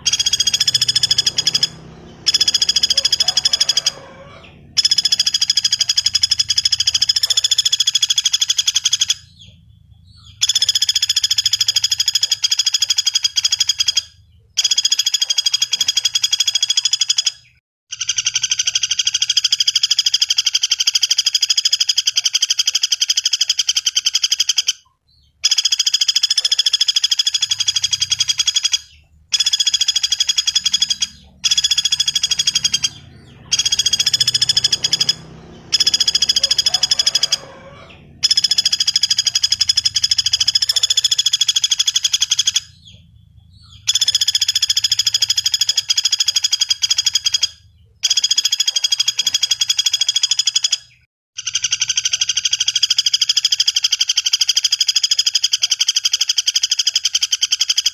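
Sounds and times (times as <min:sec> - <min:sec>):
woodpecker rattling trills: 0:00.0 - 0:57.9.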